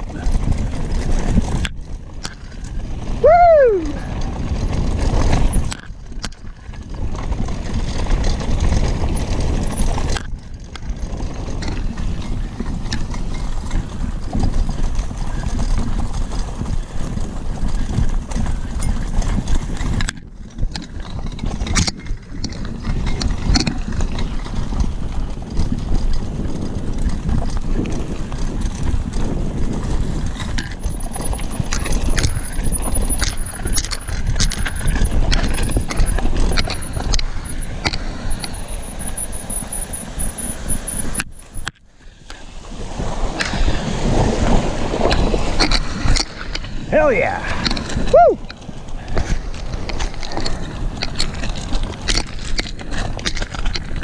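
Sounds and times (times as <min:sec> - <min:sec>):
bicycle clattering over gravel: 0:00.0 - 0:03.2, 0:04.0 - 0:38.3, 0:47.6 - 0:54.0
wind on microphone: 0:00.0 - 0:54.0.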